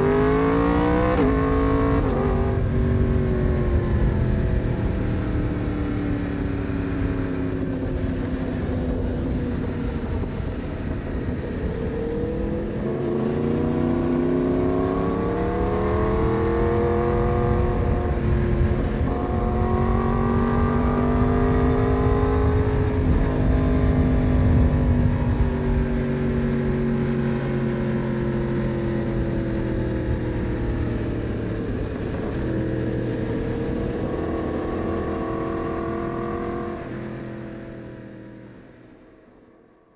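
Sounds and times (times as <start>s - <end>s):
wind noise: 0.0s - 37.8s
motorcycle engine revving: 0.0s - 38.7s.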